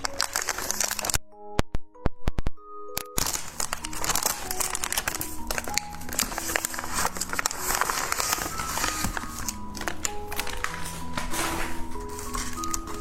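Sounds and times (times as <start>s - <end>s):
background music of held notes: 0.0s - 13.0s
wrapper crinkling and clicking: 0.0s - 13.0s.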